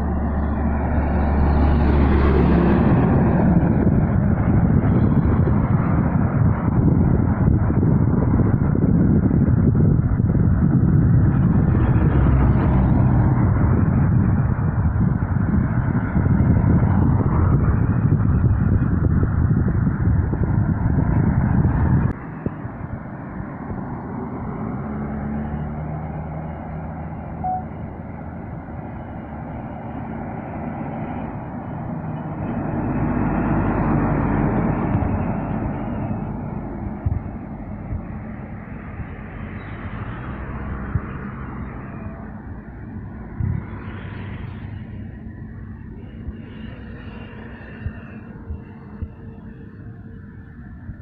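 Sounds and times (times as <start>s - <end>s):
heavy trucks driving past: 0.0s - 51.0s.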